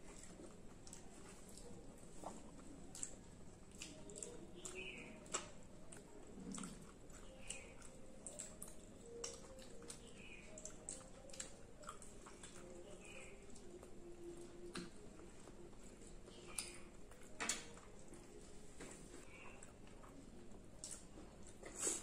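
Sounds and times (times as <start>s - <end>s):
people chewing: 0.0s - 22.0s.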